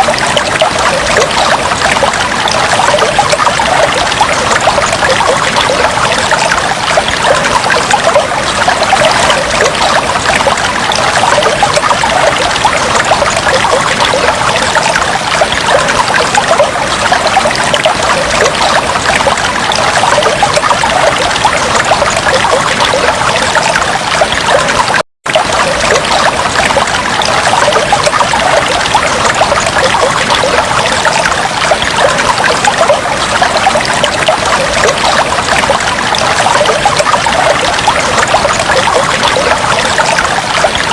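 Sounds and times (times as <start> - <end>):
aquarium water trickling: 0.0 - 40.9
bubbles: 0.0 - 40.9.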